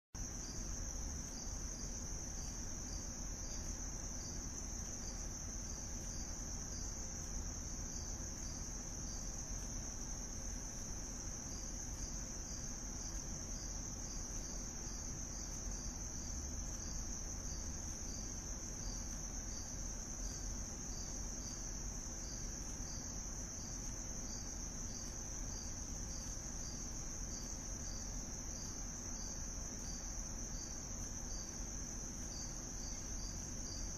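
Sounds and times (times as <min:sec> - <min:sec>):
faint evenly spaced pulse: 0:00.2 - 0:33.9.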